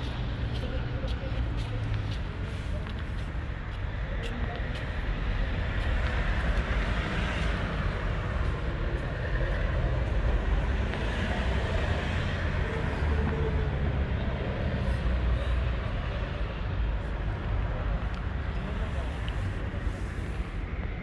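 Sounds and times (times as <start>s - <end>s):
street background roar: 0.0s - 21.0s.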